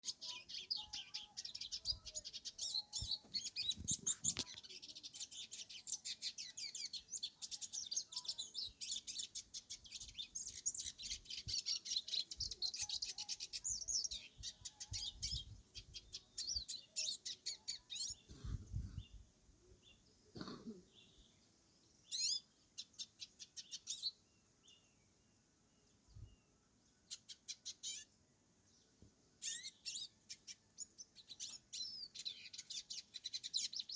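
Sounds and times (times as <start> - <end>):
bird twittering song: 0.0 - 33.9.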